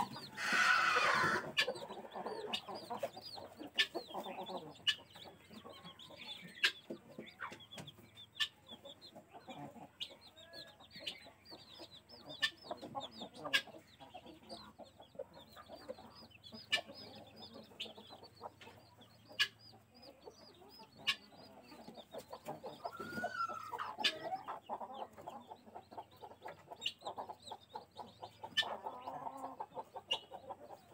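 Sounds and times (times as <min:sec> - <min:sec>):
chicks peeping: 0:00.0 - 0:30.9
hen clucking: 0:00.0 - 0:30.9.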